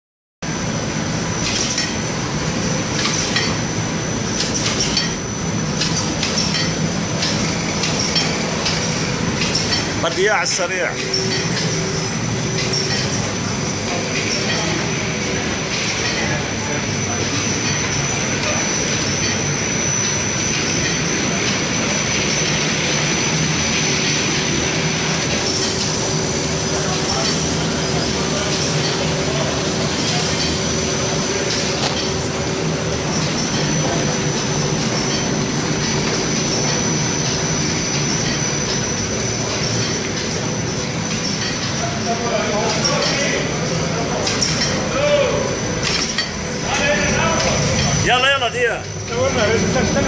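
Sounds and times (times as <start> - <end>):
machinery hum and whine: 0.4 - 50.0
machine paired clacks: 0.7 - 50.0.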